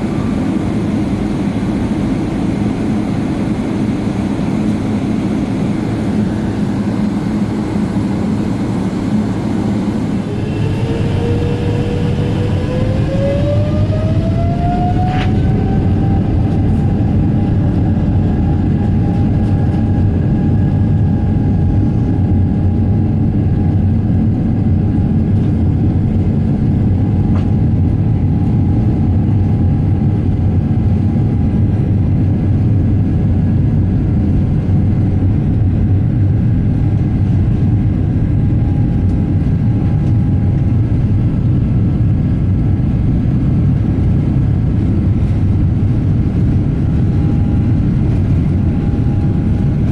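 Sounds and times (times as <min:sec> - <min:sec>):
engine fan whine: 0:00.0 - 0:49.9
jet engine rumble: 0:00.0 - 0:49.9.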